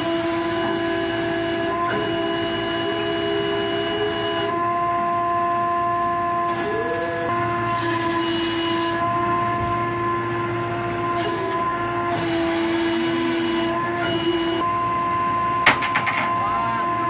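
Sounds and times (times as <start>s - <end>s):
machinery whine: 0.0s - 17.0s.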